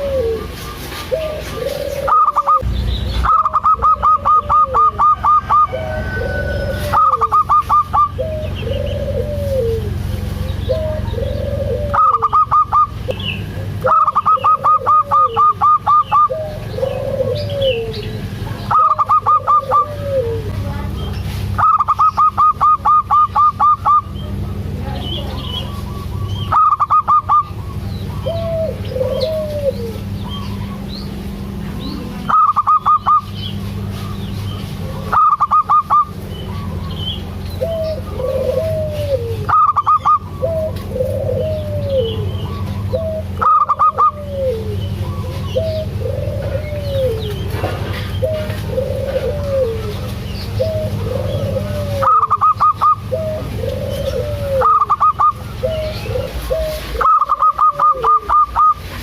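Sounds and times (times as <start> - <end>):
low rolling coos: 0.0 - 32.7, 33.7 - 59.0
doves cooing rapid notes: 0.0 - 59.0
steady low hum: 0.0 - 59.0.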